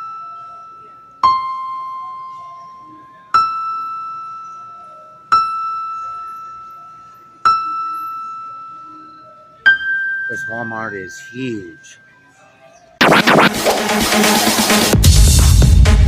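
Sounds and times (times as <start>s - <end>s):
bell-like keyboard notes: 0.0s - 13.0s.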